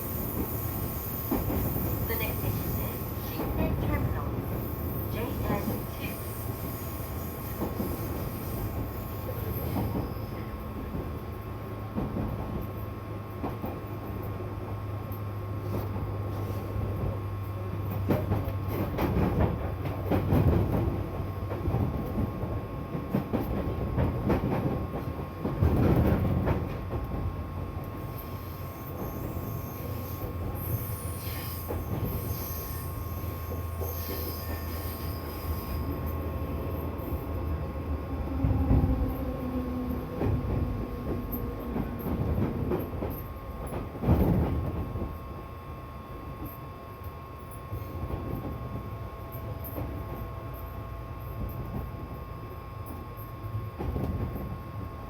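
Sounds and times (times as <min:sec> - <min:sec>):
electric train running hum: 0:00.0 - 0:55.0.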